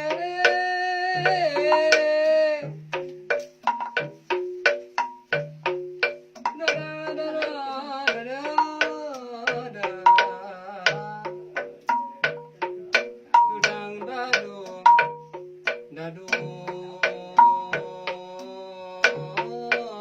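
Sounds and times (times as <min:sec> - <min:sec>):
gamelan music: 0:00.0 - 0:20.0.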